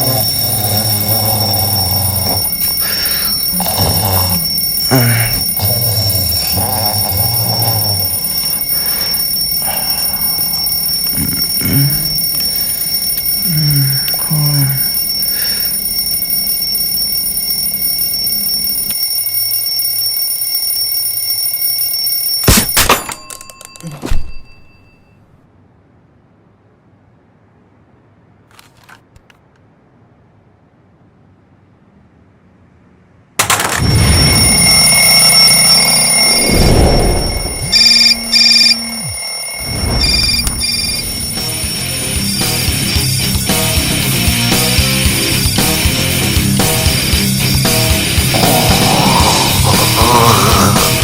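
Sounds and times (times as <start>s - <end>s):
alarm clock ringing: 0.0s - 25.2s, 33.4s - 51.0s.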